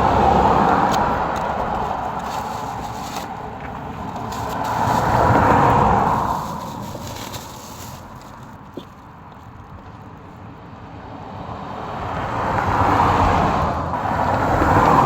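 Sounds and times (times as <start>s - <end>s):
car tyre and engine noise: 0.0s - 15.0s.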